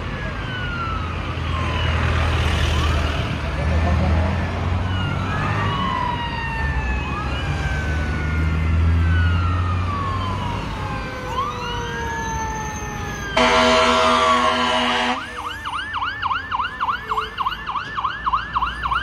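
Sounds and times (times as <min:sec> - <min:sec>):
fire engine siren wailing: 0:00.0 - 0:03.8, 0:04.4 - 0:19.0.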